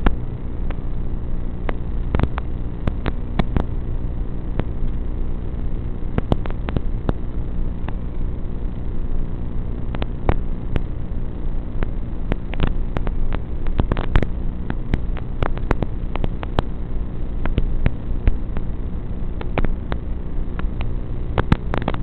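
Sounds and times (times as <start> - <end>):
crackling clicks: 0.0 - 22.0
low electrical buzz: 0.0 - 22.0.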